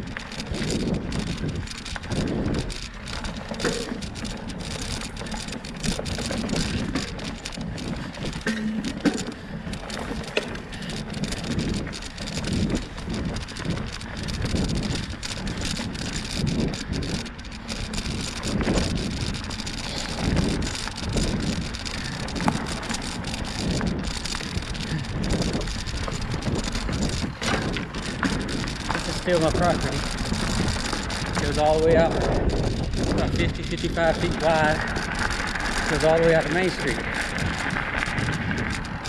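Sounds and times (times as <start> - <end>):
bicycle tyres crackling over leaves: 0.0 - 39.0
bike rattling over bumps: 0.0 - 39.0
wind buffeting microphone: 0.0 - 39.0.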